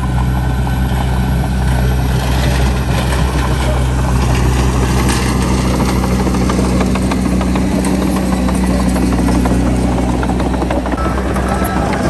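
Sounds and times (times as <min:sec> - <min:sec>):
diesel engine under load: 0:00.0 - 0:12.0
steel tracks clanking: 0:00.0 - 0:12.0.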